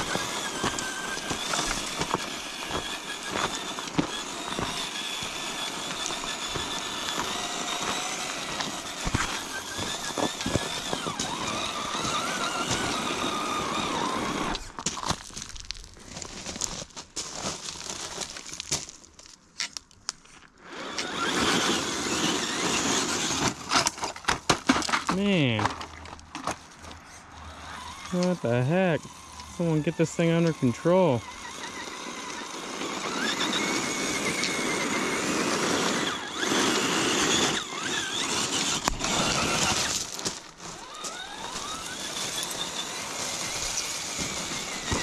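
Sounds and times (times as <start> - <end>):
electric motor whining: 0.0 - 14.8, 20.6 - 45.0
tires crunching over terrain: 0.0 - 45.0.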